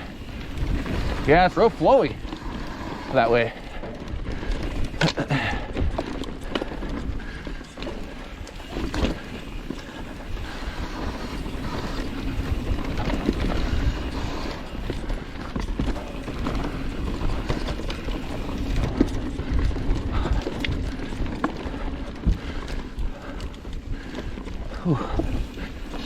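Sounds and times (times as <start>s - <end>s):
bike tyres rushing on dirt: 0.0s - 26.0s.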